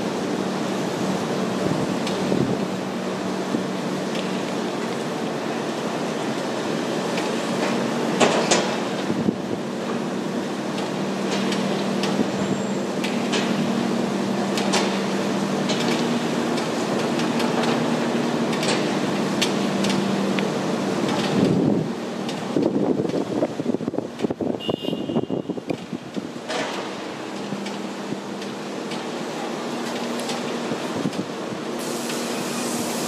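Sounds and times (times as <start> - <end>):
diesel engine humming under load: 0.0 - 33.0.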